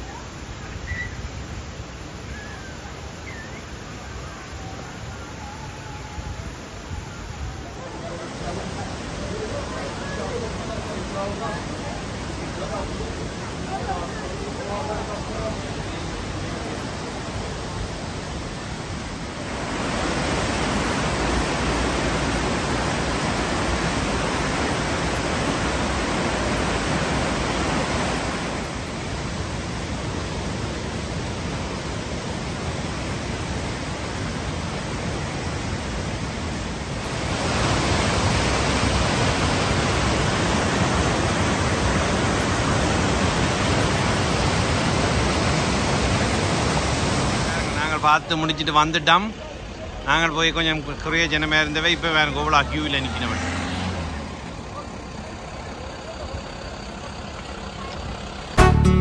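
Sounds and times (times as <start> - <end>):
white water rushing: 0.0 - 59.0.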